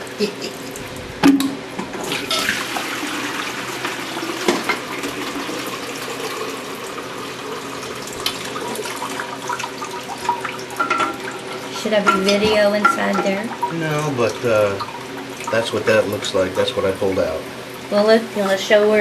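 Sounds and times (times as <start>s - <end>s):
water trickling and splashing: 2.0s - 19.0s.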